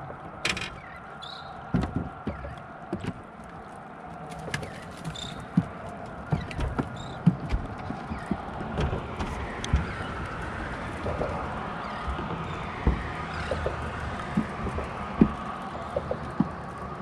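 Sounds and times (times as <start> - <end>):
hollow thumps on boat deck: 1.7 - 3.2, 4.6 - 17.0.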